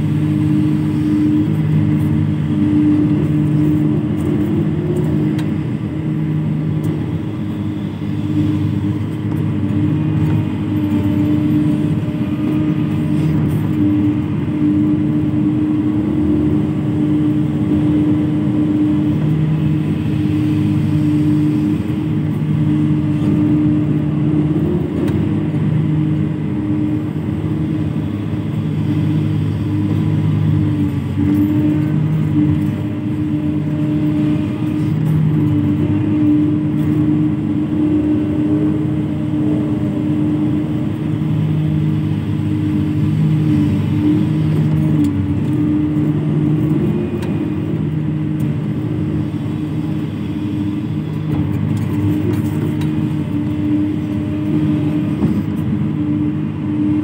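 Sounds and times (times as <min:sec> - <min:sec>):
excavator diesel engine humming: 0:00.0 - 0:57.0.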